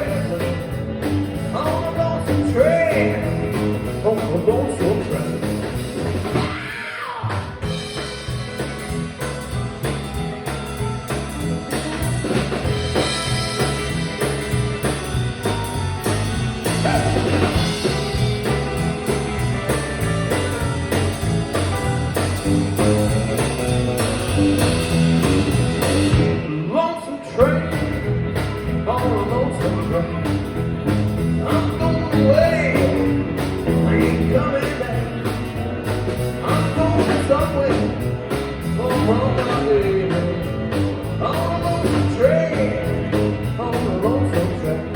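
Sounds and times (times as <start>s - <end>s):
blues rock band music: 0.0s - 44.9s.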